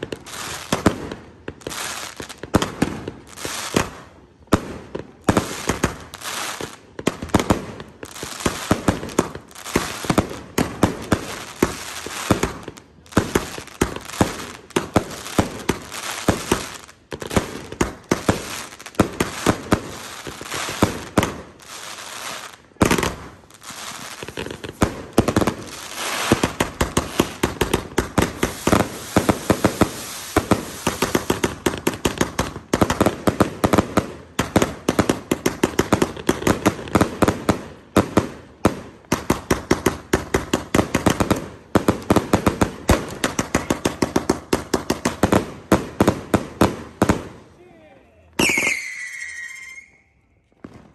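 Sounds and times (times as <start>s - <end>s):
firework shots and bursts: 0.0s - 47.6s, 48.4s - 49.9s
firework crackling: 0.0s - 50.9s.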